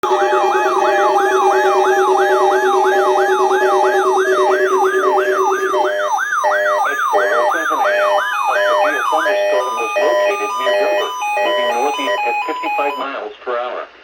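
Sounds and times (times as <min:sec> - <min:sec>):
short stepped electronic tones: 0:00.0 - 0:13.0
electronic warning siren: 0:00.0 - 0:13.1.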